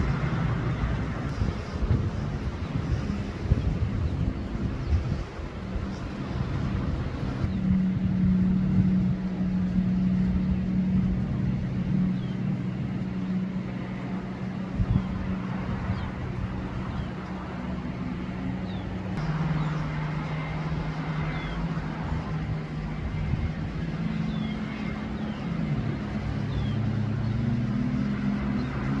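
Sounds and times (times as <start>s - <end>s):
jet ski engines running: 0.0s - 29.0s.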